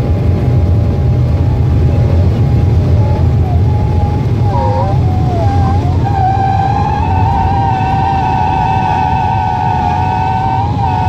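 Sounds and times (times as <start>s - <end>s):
jet engines at takeoff power: 0.0s - 11.0s.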